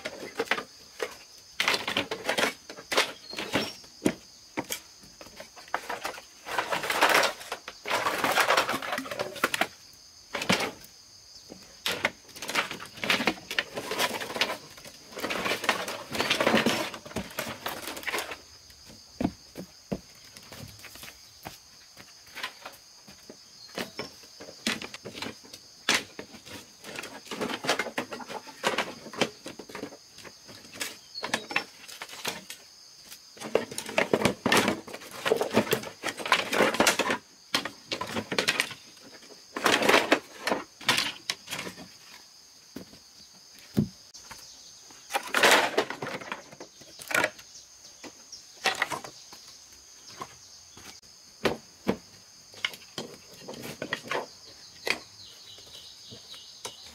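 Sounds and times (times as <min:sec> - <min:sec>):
crickets chirping: 0:00.0 - 0:56.9
rustling and scraping: 0:00.0 - 0:56.9.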